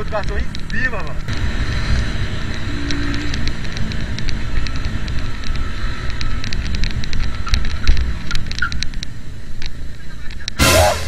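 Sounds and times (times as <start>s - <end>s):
motorcycle engine running: 0.0s - 10.2s
sharp clicks and rattles: 0.0s - 10.6s
wind rush on microphone: 0.0s - 10.6s.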